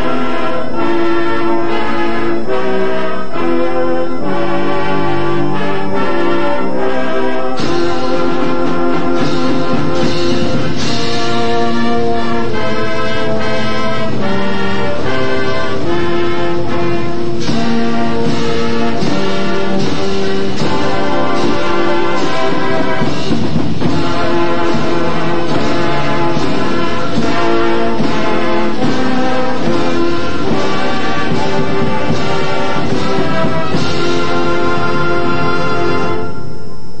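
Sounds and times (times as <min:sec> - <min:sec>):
brass band chords: 0:00.0 - 0:37.0
drum strokes: 0:00.0 - 0:37.0.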